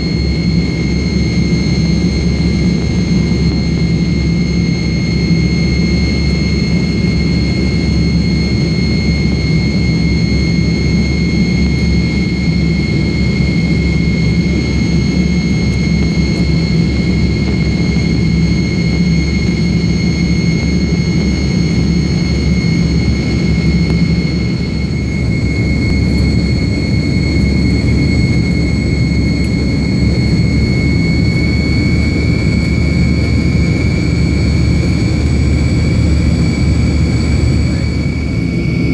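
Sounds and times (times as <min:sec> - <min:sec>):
jet engines from inside cabin: 0:00.0 - 0:38.9.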